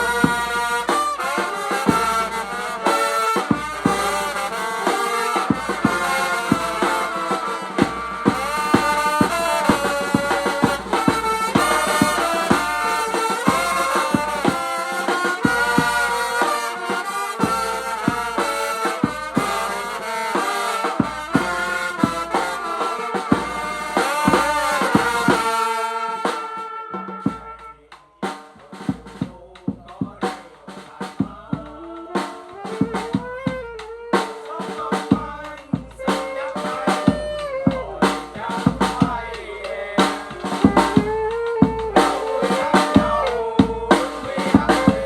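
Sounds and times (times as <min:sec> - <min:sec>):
drum hits: 0:00.0 - 0:27.6, 0:32.5 - 0:45.0
brass band playing: 0:00.0 - 0:45.0.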